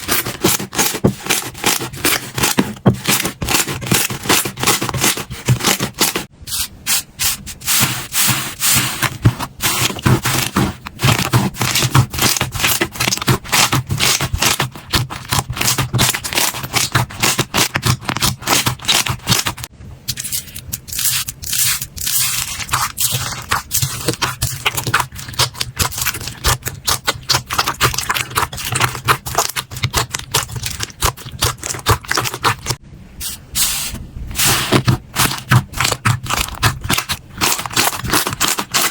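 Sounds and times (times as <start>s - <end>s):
slime crackling and squelching: 0.0s - 6.3s, 7.2s - 33.7s, 34.3s - 38.9s.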